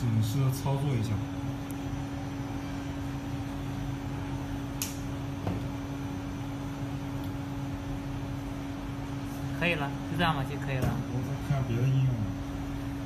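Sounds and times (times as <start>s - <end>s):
machine hum with constant tone: 0.0s - 13.0s.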